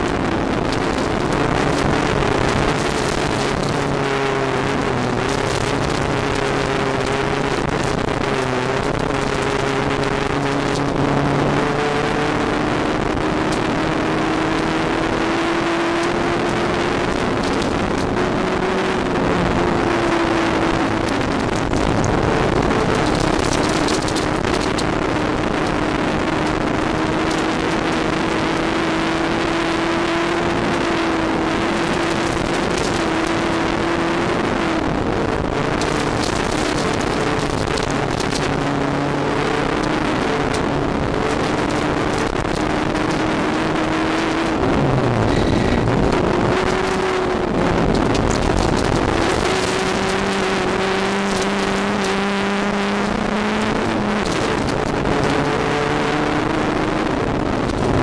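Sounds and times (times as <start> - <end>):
car engine at high revs: 0.0 - 58.0
gravel rushing under car: 0.0 - 58.0
wind noise: 0.0 - 58.0.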